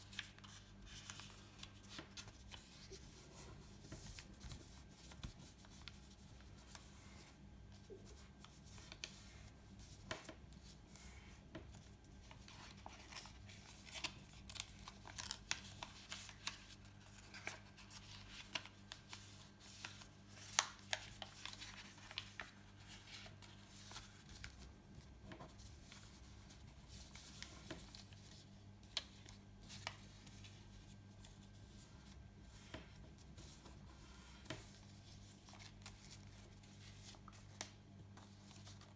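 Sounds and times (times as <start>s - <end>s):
paper folding and crackling: 0.0s - 38.9s.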